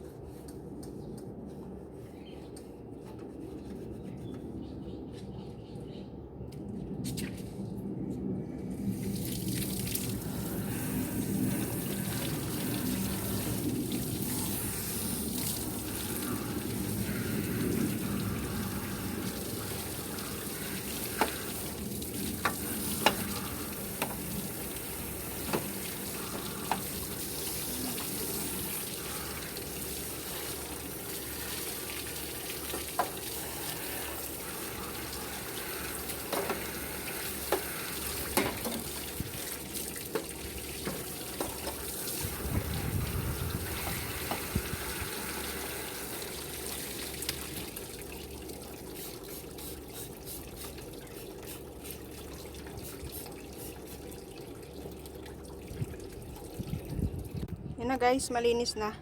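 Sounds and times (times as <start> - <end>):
water running and splashing: 8.9 - 57.5.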